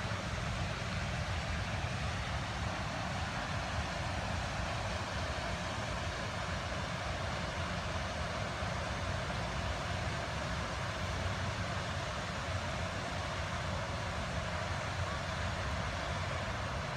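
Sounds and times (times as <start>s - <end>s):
fountain water splashing: 0.0s - 16.9s.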